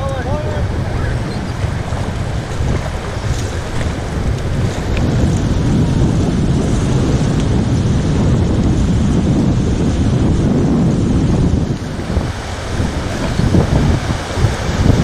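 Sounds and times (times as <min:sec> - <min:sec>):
rushing whitewater: 0:00.0 - 0:15.0
wind buffeting microphone: 0:00.0 - 0:15.0.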